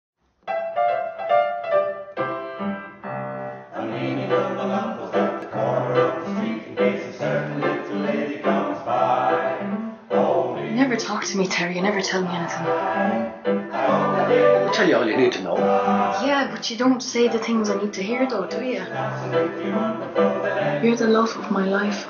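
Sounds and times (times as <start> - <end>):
title music with singing: 3.6 - 22.0.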